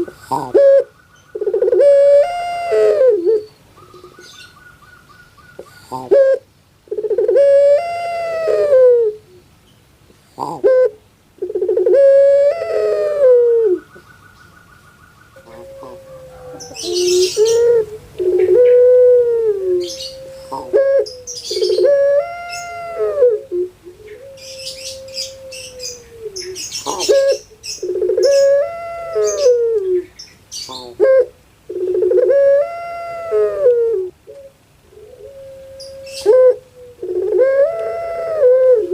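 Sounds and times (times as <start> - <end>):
doves cooing: 0.0 - 9.5, 10.3 - 38.9.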